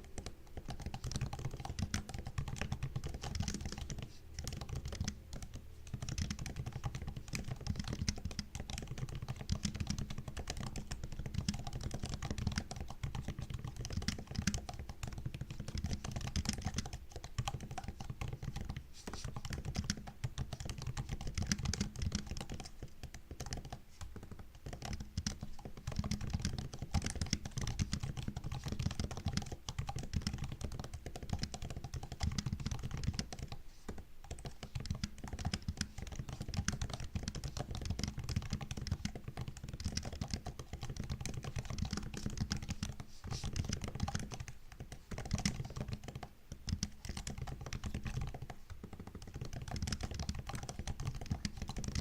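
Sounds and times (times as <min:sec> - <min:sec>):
fast typing on laptop keyboard: 0:00.0 - 0:52.0.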